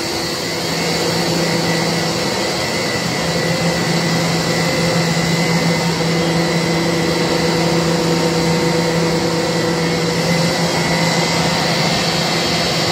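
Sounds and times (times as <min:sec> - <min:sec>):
machinery hum and whir: 0:00.0 - 0:12.9.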